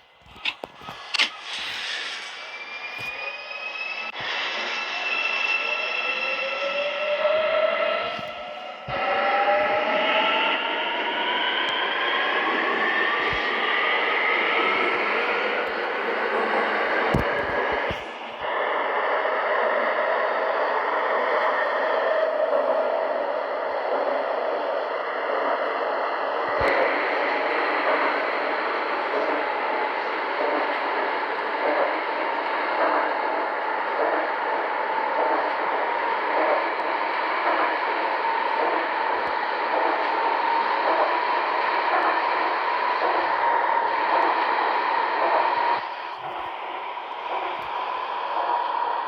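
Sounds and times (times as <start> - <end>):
train motor whine: 0.0 - 49.0
train wheels on rails: 0.0 - 49.0.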